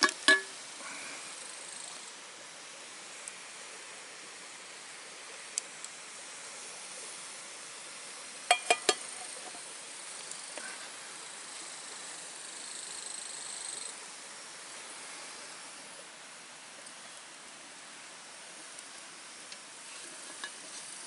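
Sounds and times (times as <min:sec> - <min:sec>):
steady hissing: 0:00.0 - 0:21.0.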